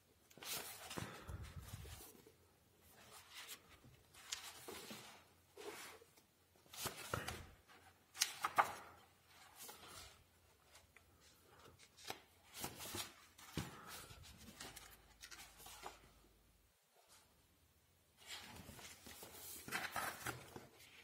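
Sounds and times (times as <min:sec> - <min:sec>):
book pages rustling: 0:00.3 - 0:16.3, 0:18.2 - 0:21.0.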